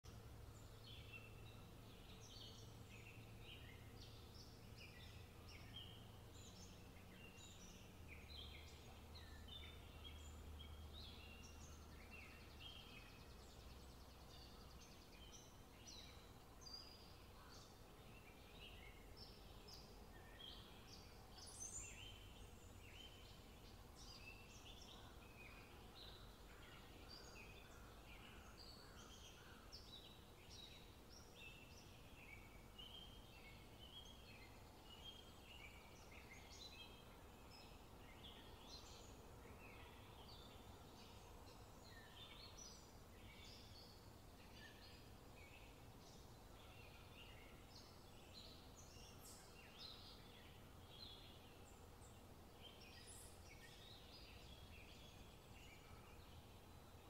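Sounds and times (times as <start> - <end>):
birds chirping and trilling: 0.1 - 57.0.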